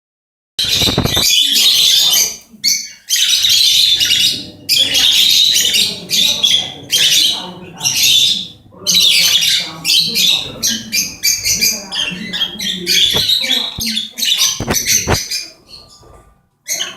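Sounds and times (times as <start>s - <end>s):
lovebird squawking and chirping: 0.6s - 16.9s.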